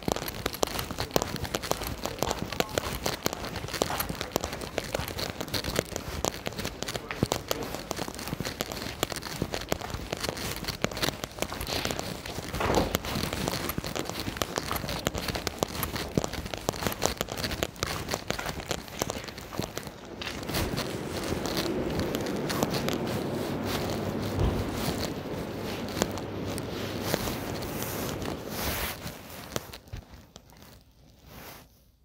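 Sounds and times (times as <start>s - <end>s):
raindrops pattering: 0.0s - 31.5s.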